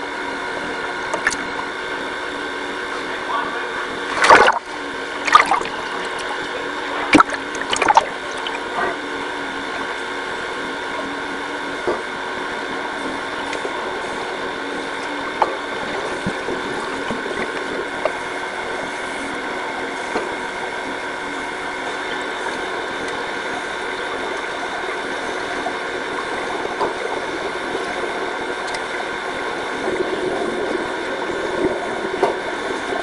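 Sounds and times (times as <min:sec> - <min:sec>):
regulator bubbles gurgling: 0:00.0 - 0:33.0
underwater hum: 0:00.0 - 0:33.0.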